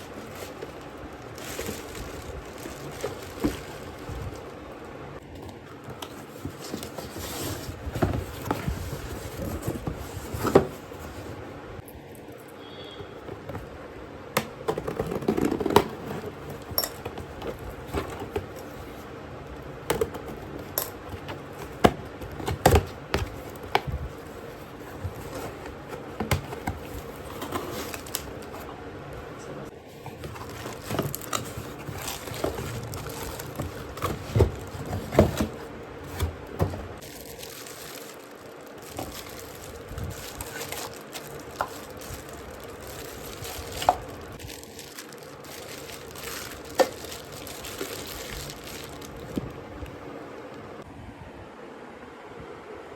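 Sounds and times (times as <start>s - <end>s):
plastic and packaging rattling: 0.0s - 11.4s, 14.4s - 28.8s, 29.9s - 49.9s.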